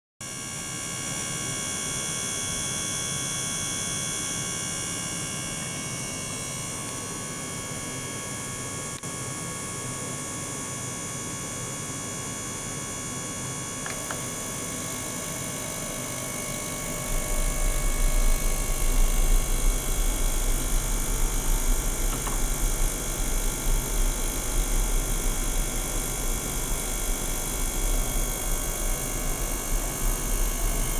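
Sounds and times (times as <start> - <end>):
ultrasonic cleaner humming and whining: 0.3 - 30.9.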